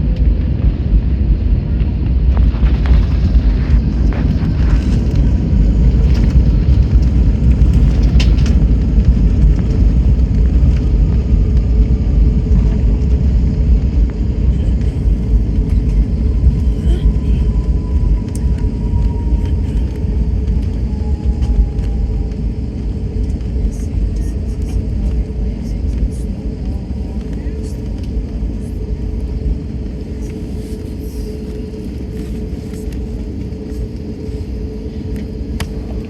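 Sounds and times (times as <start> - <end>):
aircraft engines rumbling: 0.0 - 36.0
aircraft wheels rolling on runway: 0.0 - 36.0.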